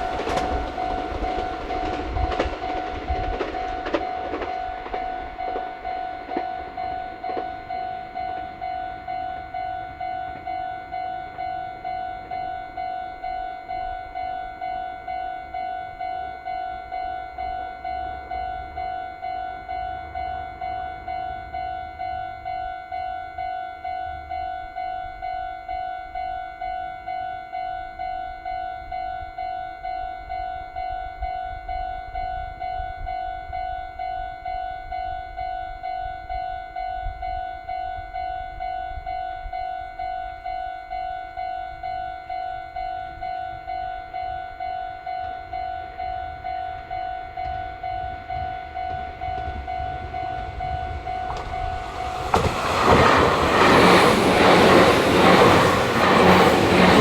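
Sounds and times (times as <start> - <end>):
approaching train: 0.0 - 57.0
level crossing warning bell: 0.0 - 57.0.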